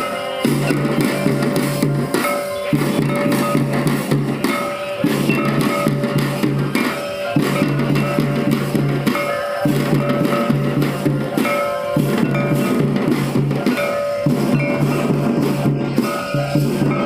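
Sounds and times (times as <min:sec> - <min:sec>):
folk drum ensemble: 0:00.0 - 0:17.0
held pitched notes: 0:00.0 - 0:17.0.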